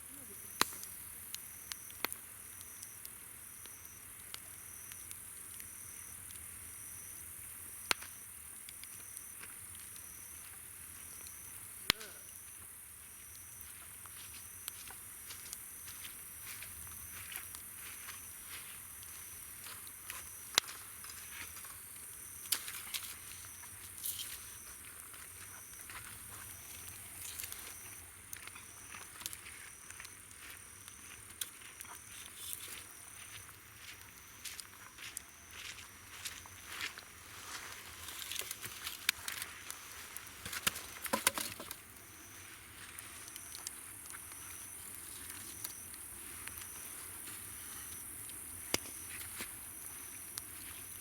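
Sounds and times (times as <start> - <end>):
campfire crackling and popping: 0.0 - 51.0
insect chirping: 0.0 - 51.0.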